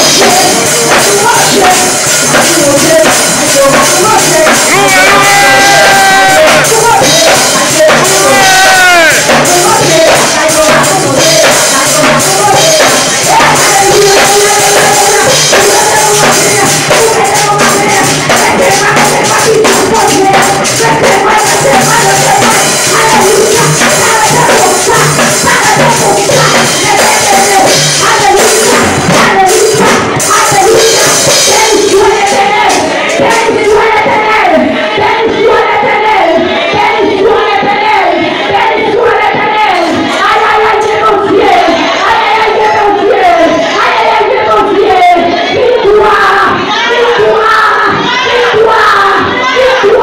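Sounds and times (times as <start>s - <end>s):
worship music over loudspeaker: 0.0s - 50.0s.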